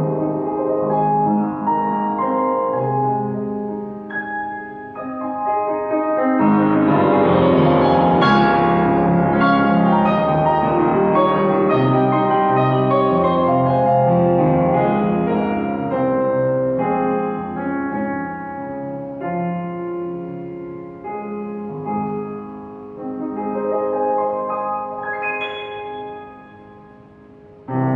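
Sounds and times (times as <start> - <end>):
upright piano chords: 0.0 - 27.9.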